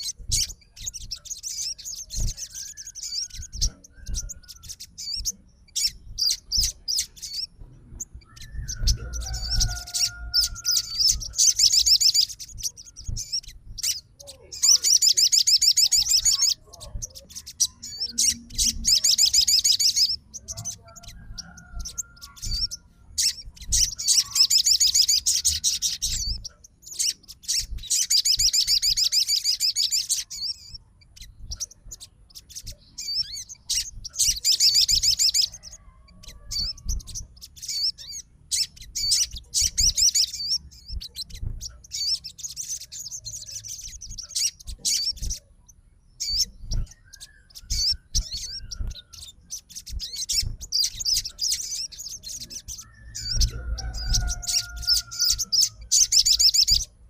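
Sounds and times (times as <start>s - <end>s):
songbird chattering trills: 0.0s - 57.0s.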